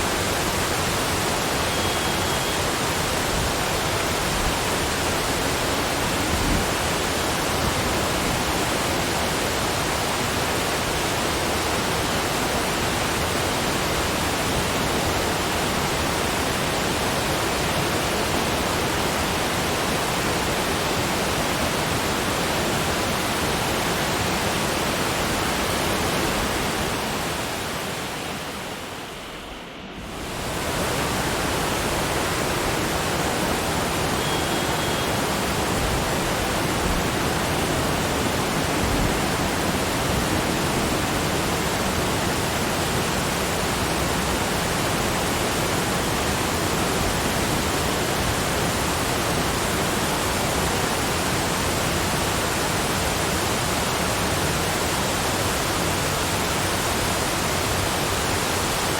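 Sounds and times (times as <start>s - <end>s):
rushing falling water: 0.0s - 58.9s.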